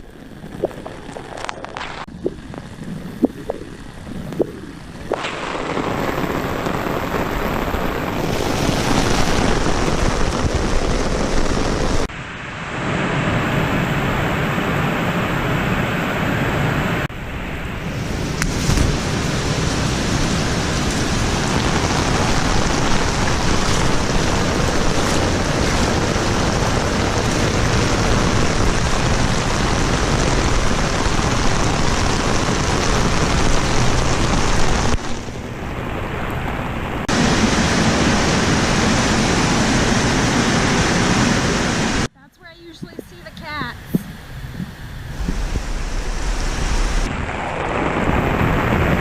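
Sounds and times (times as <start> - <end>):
heavy rain pouring: 0.0 - 42.1, 45.0 - 49.0.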